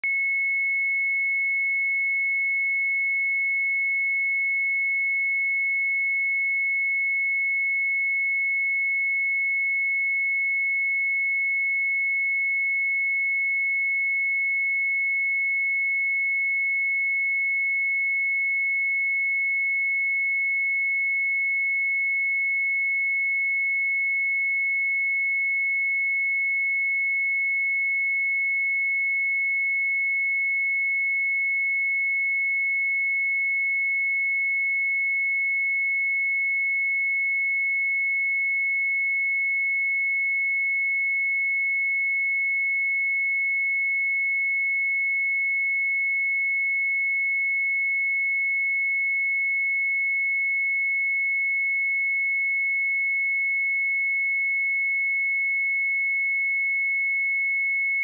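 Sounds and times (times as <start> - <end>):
sine wave test tone: 0.0 - 58.0.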